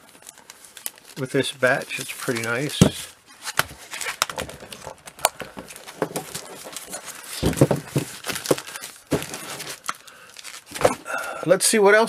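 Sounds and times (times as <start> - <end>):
packaging crinkling and rustling: 0.0 - 11.5.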